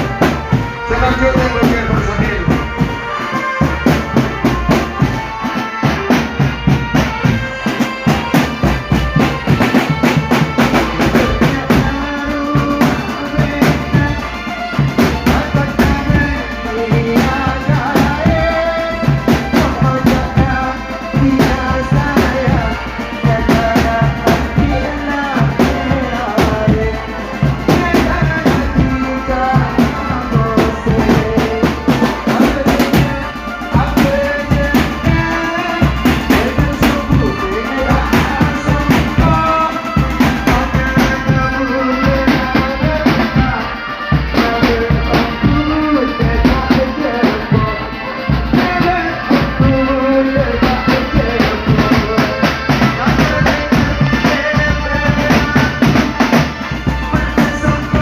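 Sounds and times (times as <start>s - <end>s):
band playing music: 0.0s - 58.0s
busy drum beat: 0.0s - 58.0s.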